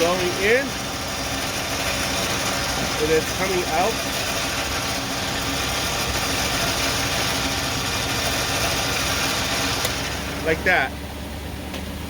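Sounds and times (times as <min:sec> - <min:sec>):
electric winch running: 0:00.0 - 0:11.0
truck engine idling: 0:00.0 - 0:12.0.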